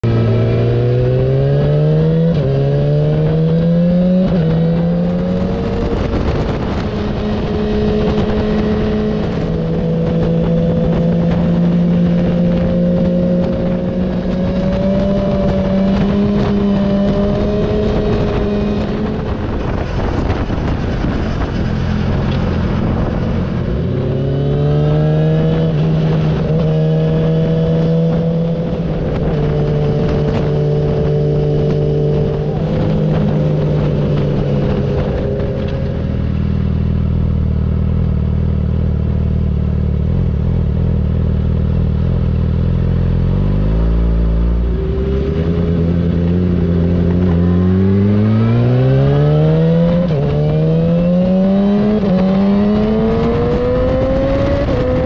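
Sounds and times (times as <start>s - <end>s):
motorcycle engine accelerating: 0.0s - 55.0s
wind rushing: 0.1s - 36.5s, 44.1s - 55.0s.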